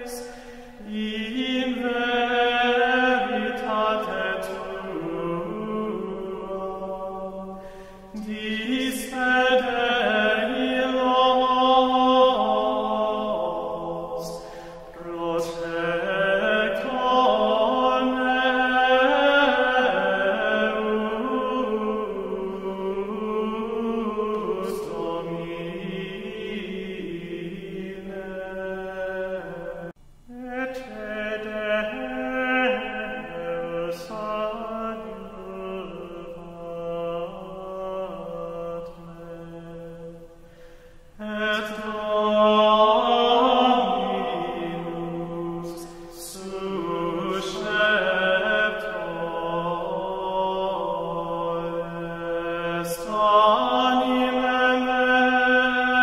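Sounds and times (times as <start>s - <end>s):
person chanting a prayer: 0.0s - 40.2s, 41.2s - 56.0s.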